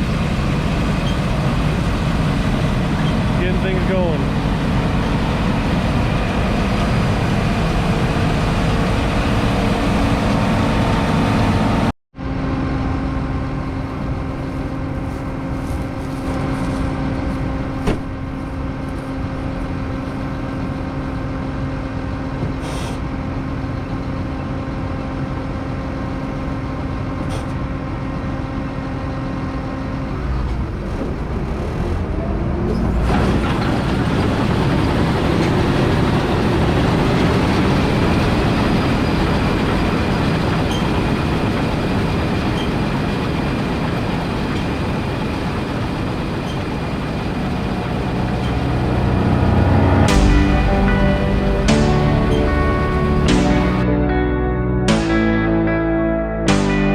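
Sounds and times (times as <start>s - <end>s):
combine harvester drone: 0.0s - 56.9s.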